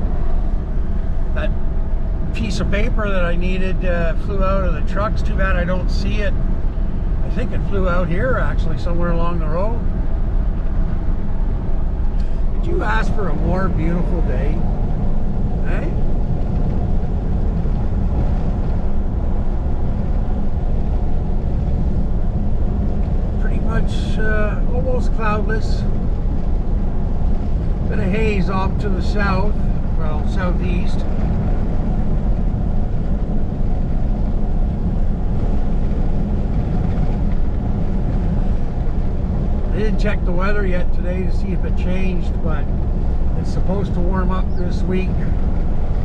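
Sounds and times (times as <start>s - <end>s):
pickup truck engine rumble: 0.0s - 46.0s
tyre noise on road: 0.0s - 46.0s.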